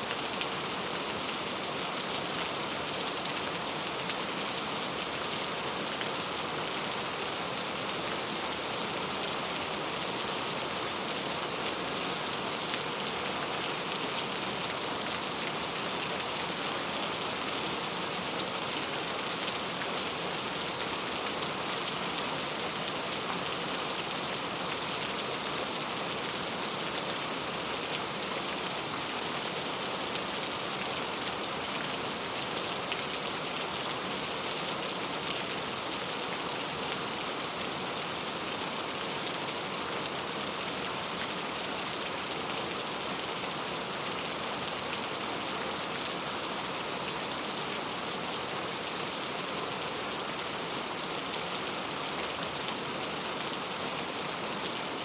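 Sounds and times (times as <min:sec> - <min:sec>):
rain falling on a road: 0:00.0 - 0:55.0.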